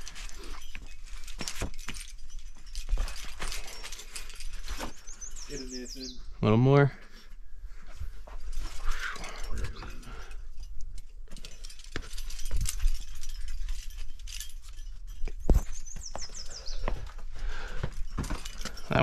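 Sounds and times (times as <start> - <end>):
climbing gear clinking: 0.0 - 19.0.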